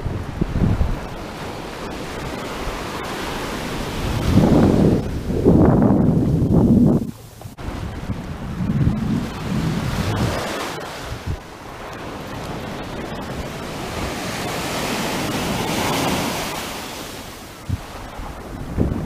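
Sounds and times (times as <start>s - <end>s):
surf washing up beach: 0.0s - 19.0s
wind rumbling on microphone: 0.0s - 19.0s.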